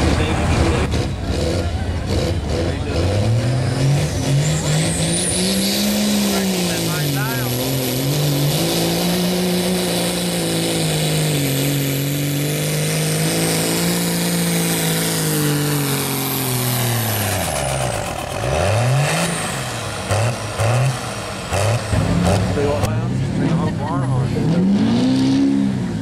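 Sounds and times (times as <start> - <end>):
diesel engine at full load: 0.0 - 26.0
engine revs: 0.0 - 26.0.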